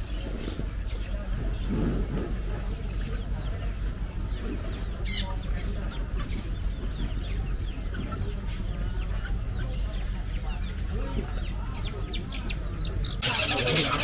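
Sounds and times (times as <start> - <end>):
caged birds chirping: 0.0 - 14.0
low steady rumble: 0.0 - 14.0.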